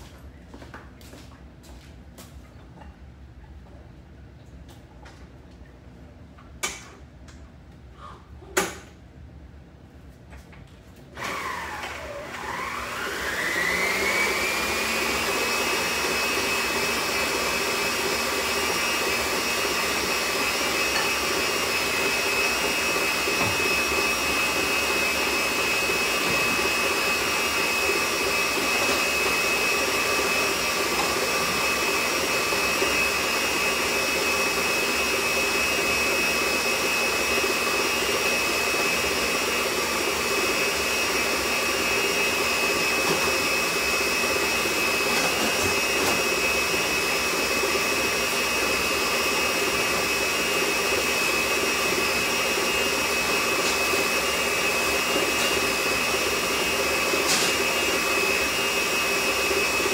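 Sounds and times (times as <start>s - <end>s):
electric mixer motor whine: 11.2s - 59.9s.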